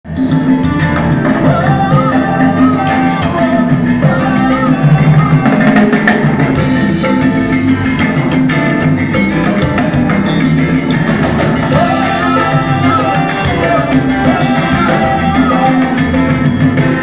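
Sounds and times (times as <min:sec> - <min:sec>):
latin dance music: 0:00.0 - 0:17.0.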